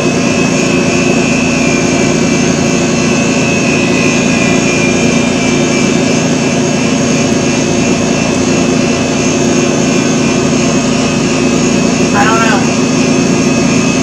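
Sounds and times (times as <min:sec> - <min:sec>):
machine hum and whine: 0:00.0 - 0:14.0.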